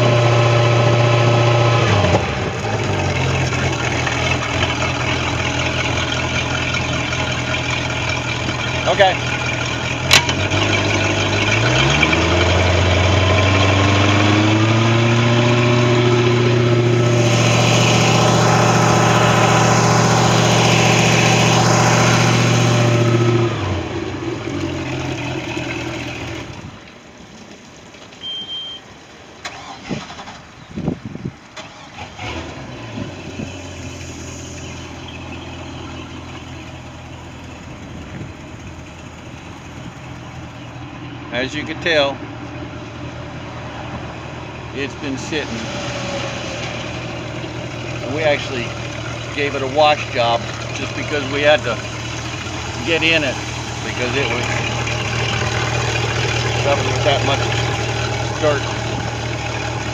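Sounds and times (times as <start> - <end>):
boat engine revving and idling: 0.0 - 59.9.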